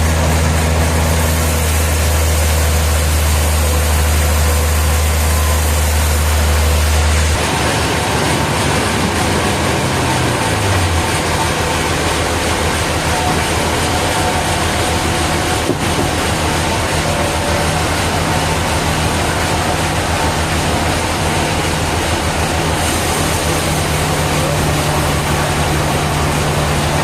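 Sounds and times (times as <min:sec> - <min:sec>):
rough noisy machinery: 0:00.0 - 0:27.0
sawmill machinery humming: 0:00.0 - 0:27.0.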